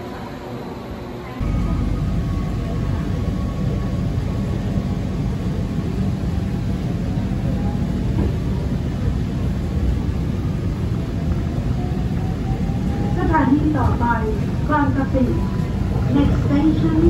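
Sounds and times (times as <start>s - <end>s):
monorail car low rumble: 0.0s - 17.0s.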